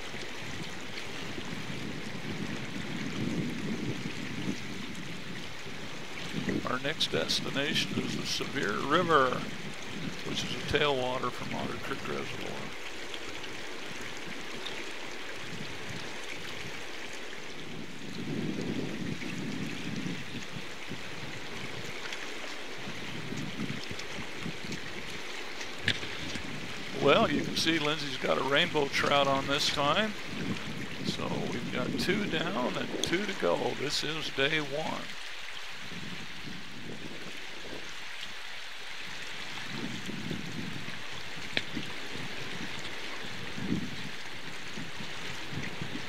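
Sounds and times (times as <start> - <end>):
river water rushing over rocks: 0.0 - 46.0.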